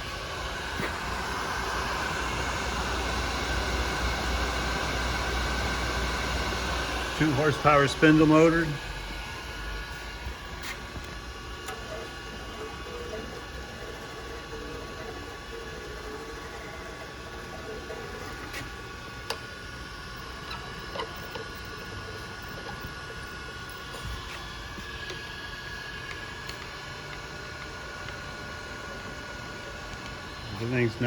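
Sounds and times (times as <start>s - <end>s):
surface grinder motor whining: 0.0s - 31.0s.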